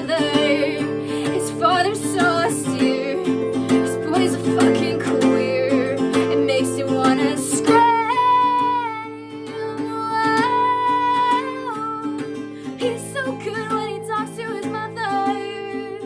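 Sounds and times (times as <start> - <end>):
acoustic guitar strumming: 0.0 - 16.0
person singing: 0.0 - 16.0.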